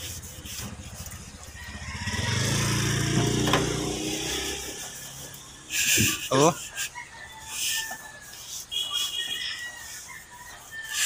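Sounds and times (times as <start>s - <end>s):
cloth rubbing on sheet metal: 0.0s - 11.0s.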